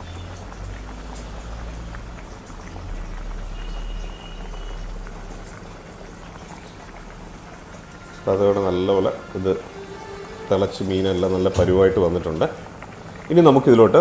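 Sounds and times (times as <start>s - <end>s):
curry bubbling at a boil: 0.0s - 14.0s.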